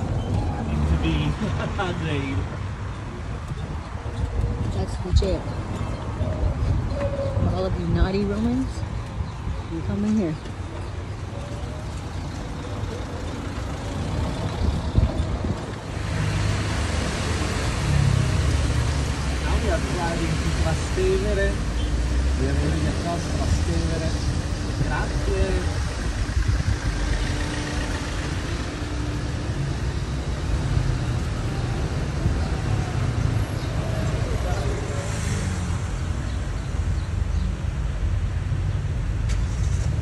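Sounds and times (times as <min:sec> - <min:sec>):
road and traffic rumble: 0:00.0 - 0:40.0.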